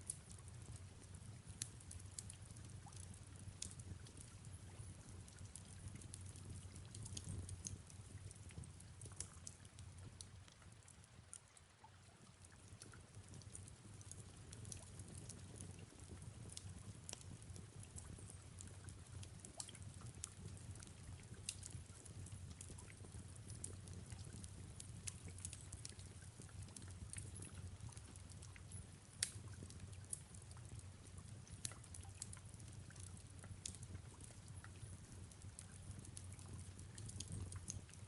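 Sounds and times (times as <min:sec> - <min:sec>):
soft rain hiss: 0:00.0 - 0:38.0
fireplace crackling: 0:05.2 - 0:38.0.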